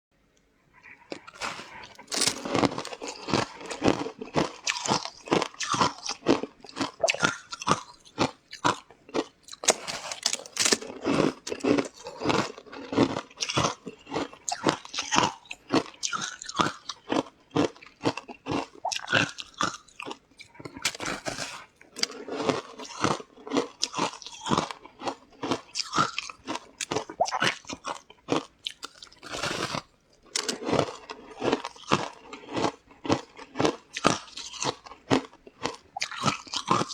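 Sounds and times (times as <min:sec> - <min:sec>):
crunchy bites and chewing: 0:00.8 - 0:36.9.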